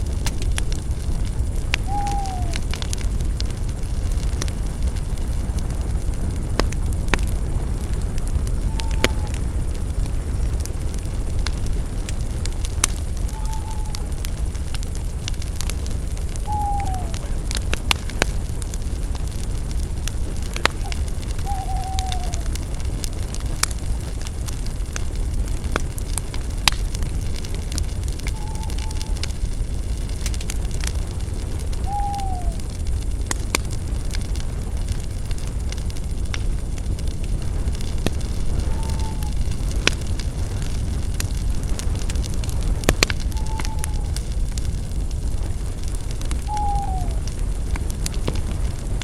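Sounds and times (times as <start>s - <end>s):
campfire crackling and popping: 0.0s - 49.0s
low rush of flame: 0.0s - 49.0s.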